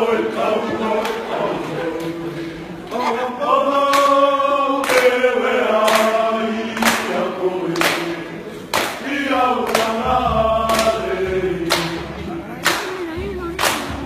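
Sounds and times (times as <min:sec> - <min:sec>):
men singing in harmony: 0:00.0 - 0:12.6.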